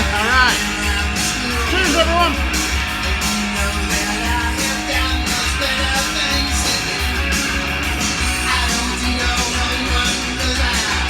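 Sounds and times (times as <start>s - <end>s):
rock music from vinyl record: 0.0s - 11.0s.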